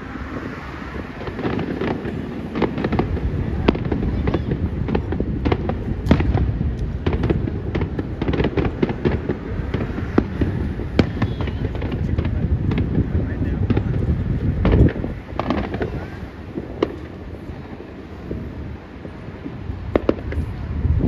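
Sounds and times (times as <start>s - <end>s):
fireworks bangs and crackles: 0.0s - 21.0s
low rumble of reports and echoes: 0.0s - 21.0s.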